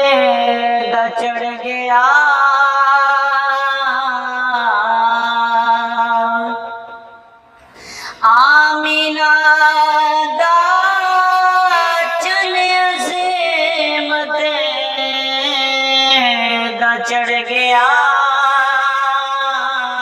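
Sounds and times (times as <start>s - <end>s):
man singing devotional song: 0.0s - 7.1s, 8.2s - 20.0s.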